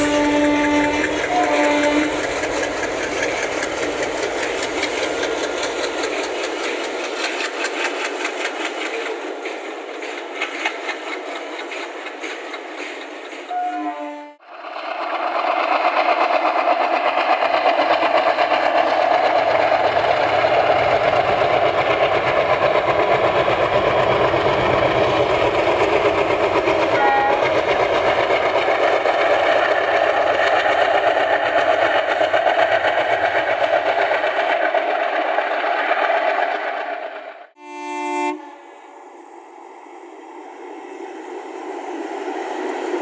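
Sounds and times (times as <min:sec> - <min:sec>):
diesel locomotive engine chugging: 0:00.0 - 0:37.6.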